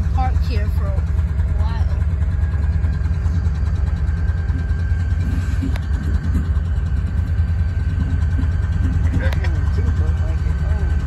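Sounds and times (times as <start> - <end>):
diesel locomotives idling: 0.0 - 11.0
thin steady whine: 0.0 - 11.0.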